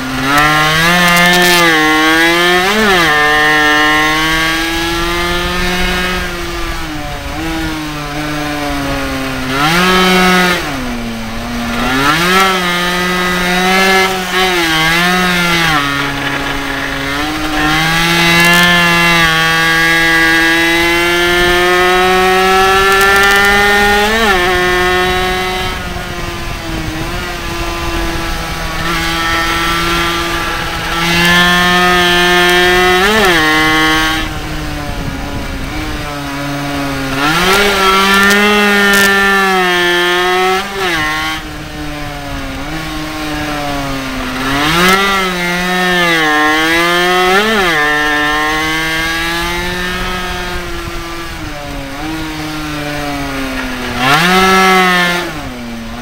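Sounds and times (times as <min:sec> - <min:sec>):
mini bike engine revving: 0:00.0 - 0:56.0.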